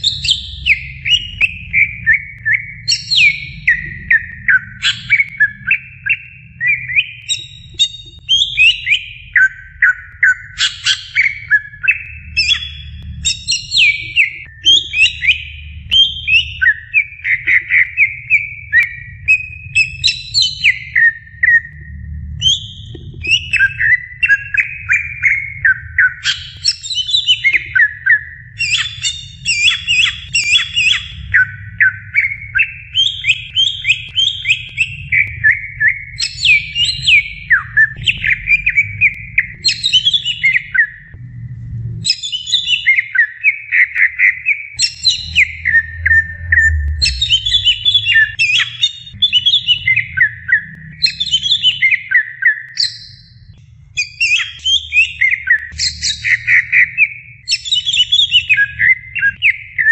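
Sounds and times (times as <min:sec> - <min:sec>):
bird singing rapid chirps: 0:00.0 - 0:41.2, 0:42.0 - 0:59.9
low steady hum: 0:00.0 - 0:54.0.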